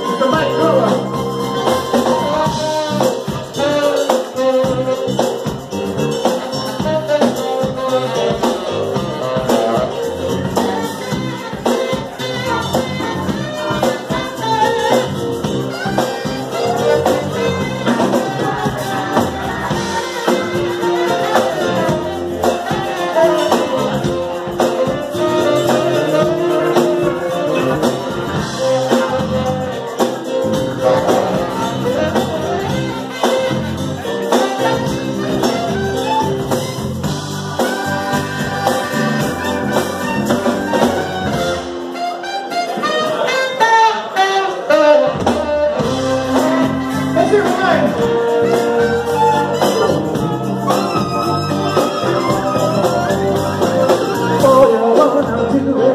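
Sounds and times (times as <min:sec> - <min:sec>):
person singing: 0:00.0 - 0:36.6, 0:45.5 - 0:55.9
electric guitar: 0:00.0 - 0:55.9
live band playing: 0:00.0 - 0:55.9.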